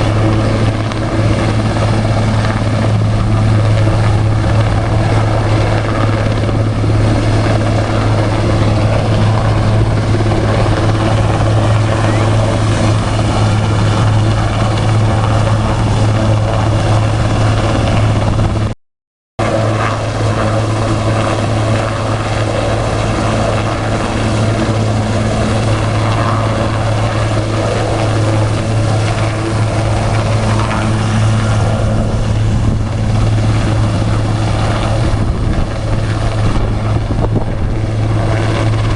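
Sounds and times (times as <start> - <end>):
helicopter rotor beating: 0.0 - 18.8, 19.4 - 38.9.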